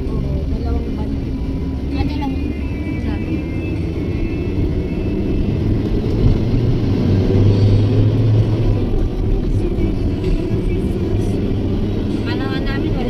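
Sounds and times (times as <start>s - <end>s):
low engine drone: 0.0s - 13.0s
vehicle engine and road noise: 0.0s - 13.0s.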